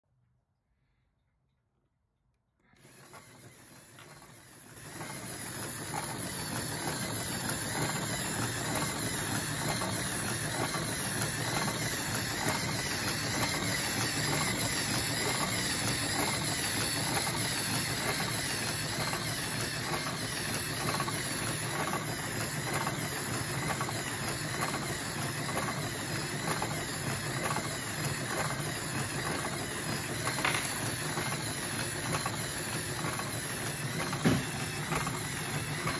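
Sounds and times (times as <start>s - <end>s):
model steam engine whirring and clicking: 2.8s - 35.9s.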